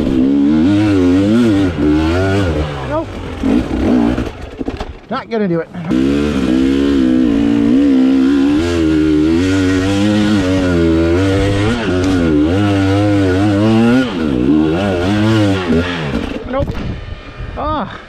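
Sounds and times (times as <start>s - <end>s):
dirt bike engine revving hard: 0.0s - 4.5s, 5.8s - 17.6s.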